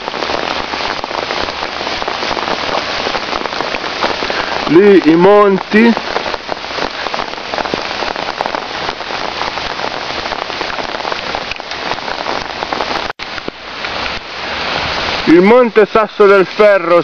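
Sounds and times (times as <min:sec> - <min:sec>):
raindrops crackling on microphone: 0:00.0 - 0:17.0
steady rain: 0:00.0 - 0:17.0.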